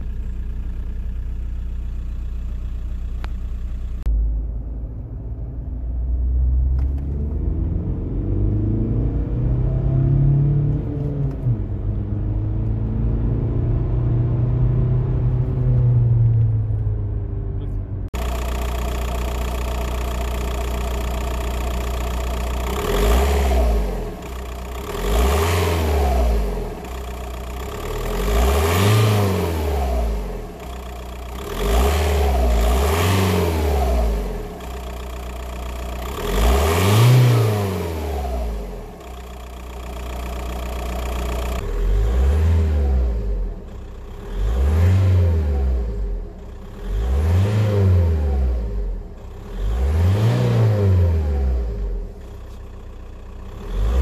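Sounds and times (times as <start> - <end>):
diesel car engine idling and revving: 0.0 - 54.0.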